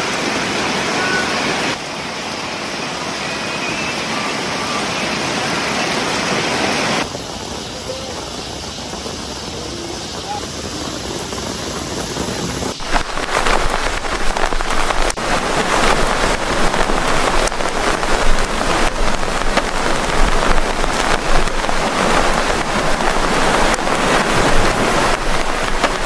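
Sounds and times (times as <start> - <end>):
heavy rain pouring: 0.0 - 26.0
raindrops striking close: 0.0 - 26.0.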